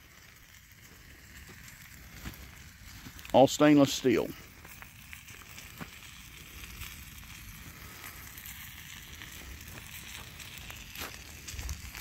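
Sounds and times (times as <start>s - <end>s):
fire hissing and crackling: 0.0s - 12.0s.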